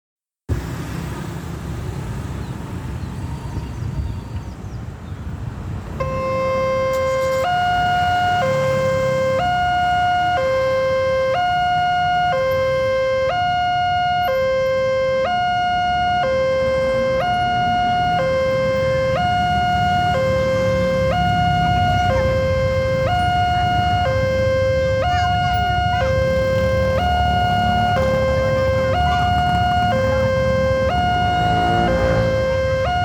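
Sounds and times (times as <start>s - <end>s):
level-crossing two-tone alarm: 6.0s - 33.0s.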